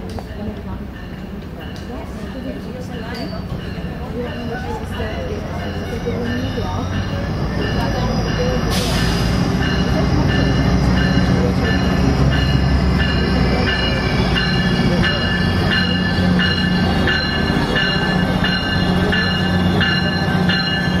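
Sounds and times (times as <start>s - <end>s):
locomotive bell ringing: 0.1s - 21.0s.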